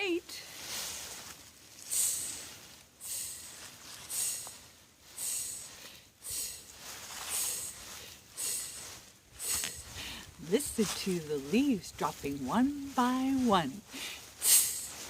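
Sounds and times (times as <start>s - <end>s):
dry leaves crunching and rustling: 0.3s - 5.9s, 6.6s - 15.0s.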